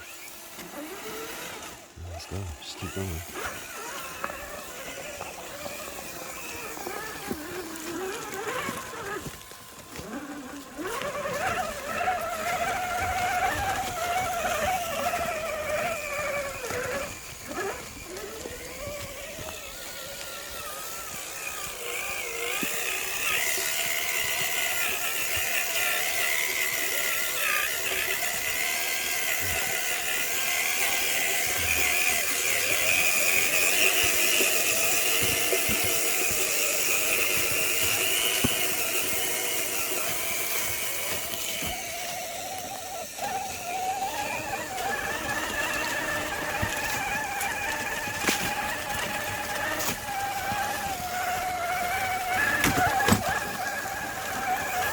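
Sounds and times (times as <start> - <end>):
toy car motor whining: 0.0 - 54.9.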